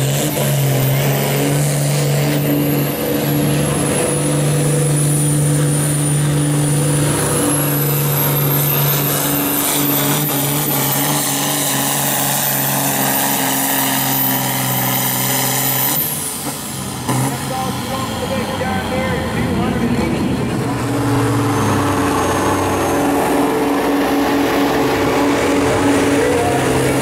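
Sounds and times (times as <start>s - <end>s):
diesel engine under load: 0.0s - 27.0s.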